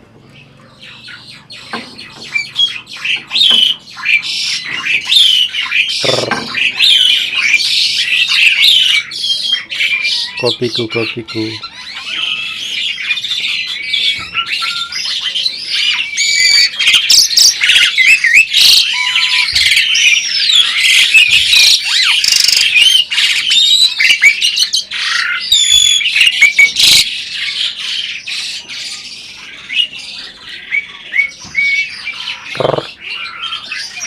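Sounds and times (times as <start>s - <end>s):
starling singing: 0.2s - 34.0s.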